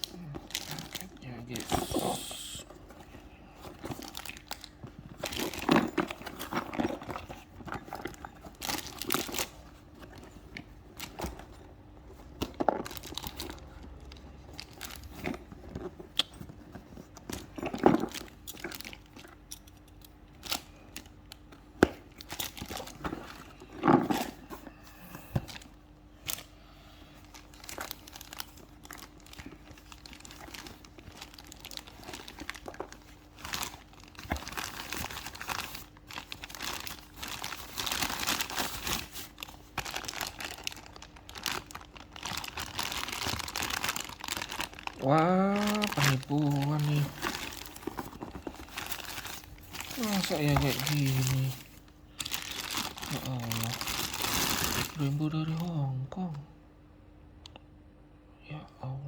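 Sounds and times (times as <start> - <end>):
packaging crinkling and tearing: 0.0 - 2.7, 3.7 - 24.5, 27.2 - 55.7.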